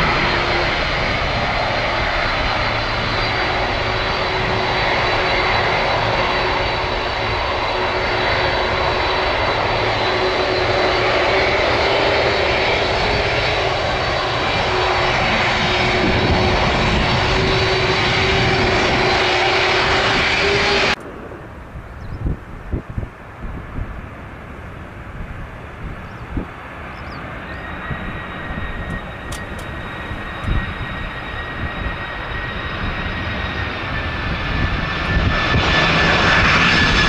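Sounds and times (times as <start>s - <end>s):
high engine whine: 0.0s - 37.0s
jet engines roaring: 0.0s - 37.0s.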